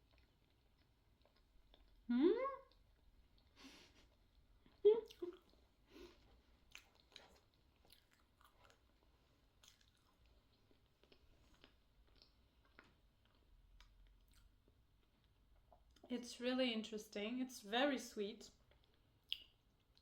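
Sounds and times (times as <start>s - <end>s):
faint wet chewing: 0.0s - 16.1s, 18.5s - 20.0s.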